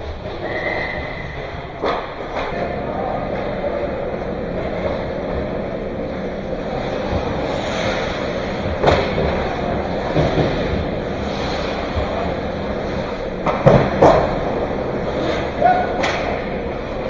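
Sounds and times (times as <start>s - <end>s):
ice rink din: 0.0s - 17.0s.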